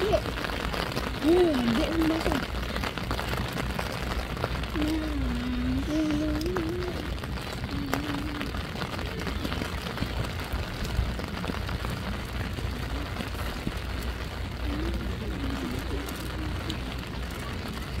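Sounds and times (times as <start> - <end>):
rumbling outdoor pitch noise: 0.0 - 18.0.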